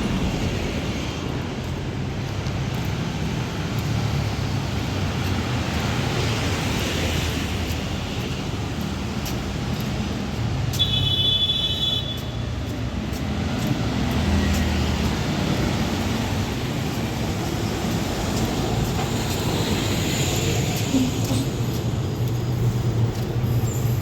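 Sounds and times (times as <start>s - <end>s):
road traffic engines: 0.0s - 24.0s.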